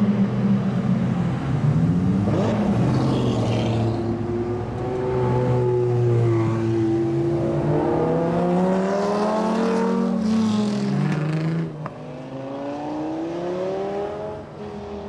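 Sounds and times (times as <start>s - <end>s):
sports car engines accelerating: 0.0s - 15.0s.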